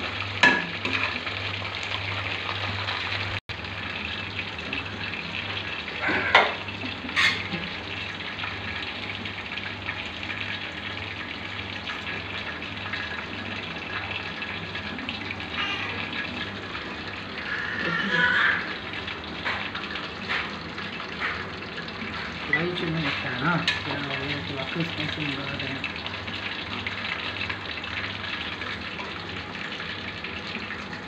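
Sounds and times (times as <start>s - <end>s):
chicken deep-frying in oil: 0.0s - 31.0s.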